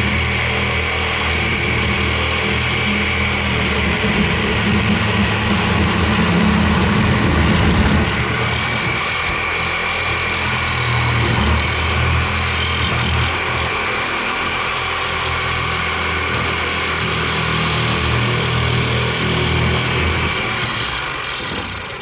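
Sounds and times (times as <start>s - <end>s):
power tool motor whining: 0.0s - 22.0s.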